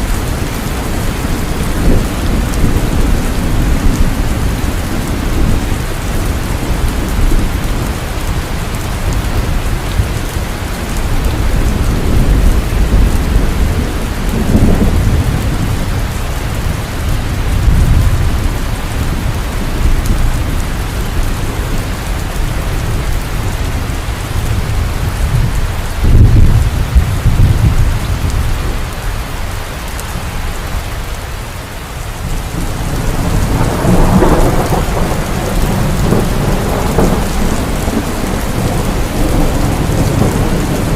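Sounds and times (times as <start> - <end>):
thunder rumbling: 0.0 - 31.2, 32.1 - 40.9
heavy rain falling: 0.0 - 40.9.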